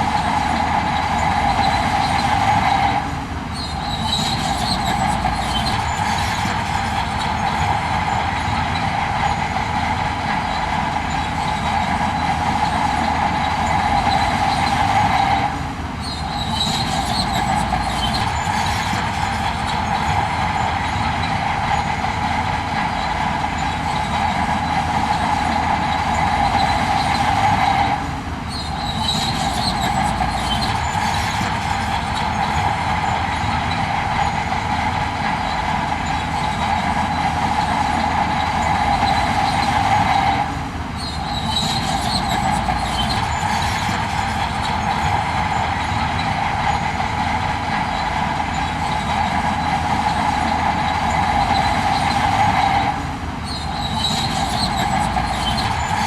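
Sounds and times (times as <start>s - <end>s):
heavy machinery running with whine: 0.0s - 56.0s.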